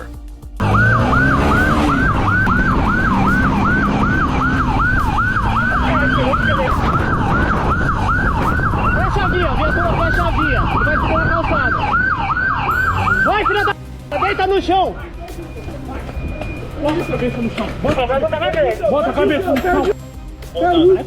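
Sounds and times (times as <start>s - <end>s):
vehicle engine and road rumble: 0.0s - 21.0s
police siren yelping: 0.6s - 14.4s, 15.5s - 20.0s.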